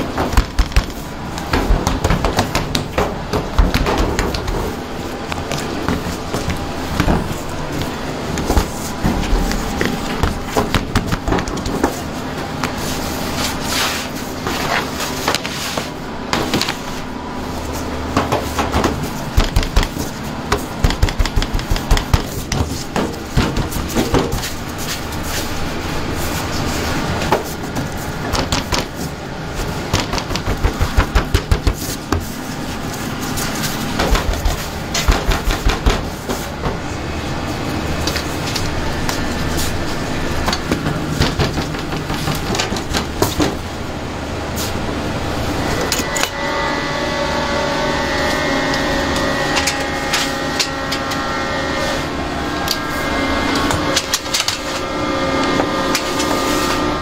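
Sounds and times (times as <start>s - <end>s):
bakery machinery hum: 0.0s - 57.0s.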